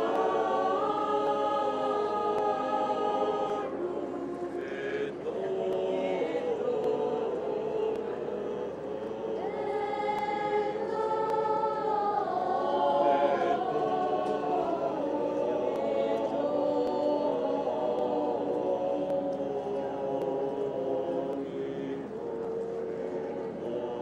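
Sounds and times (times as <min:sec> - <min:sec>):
choir singing religious chant: 0:00.0 - 0:24.0.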